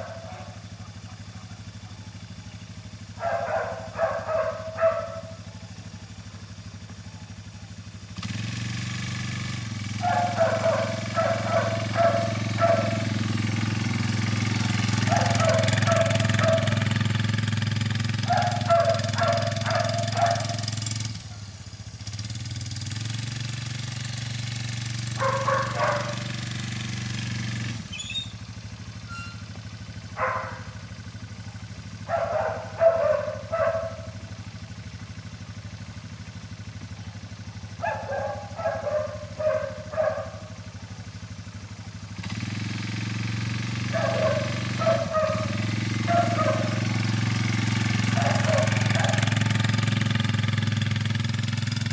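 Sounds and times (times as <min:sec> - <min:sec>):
quad bike engine running: 0:00.0 - 0:51.9.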